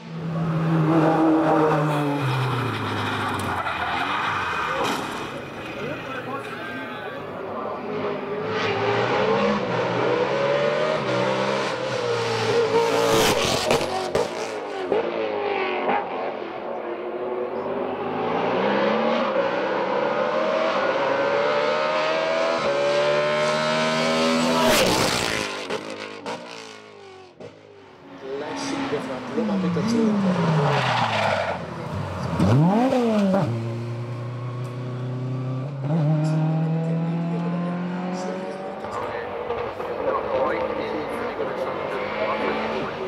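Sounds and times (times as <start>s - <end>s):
race car engine at full throttle: 0.0s - 43.0s.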